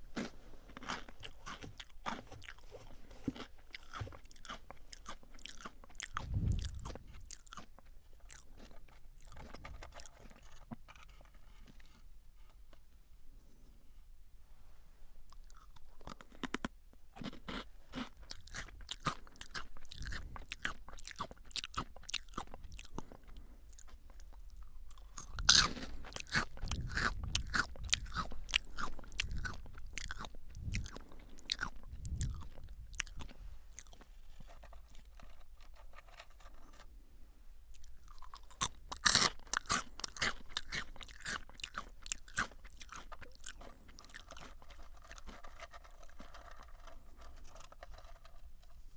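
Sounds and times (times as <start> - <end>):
crunchy snack being chewed: 0.0 - 12.0, 15.3 - 36.9, 37.7 - 48.8.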